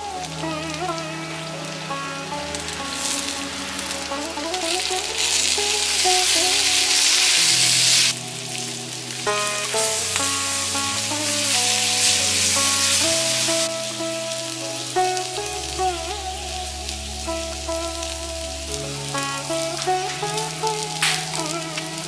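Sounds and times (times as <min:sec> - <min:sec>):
instrumental background music: 0:00.0 - 0:22.0
leaves and onions sizzling in oil: 0:00.0 - 0:22.0.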